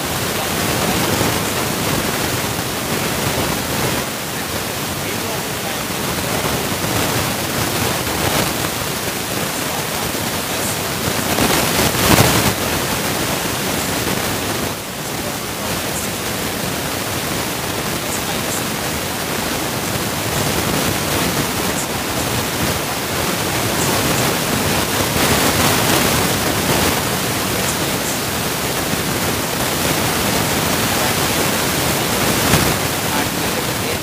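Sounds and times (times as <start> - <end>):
steady loud hiss: 0.0 - 34.0.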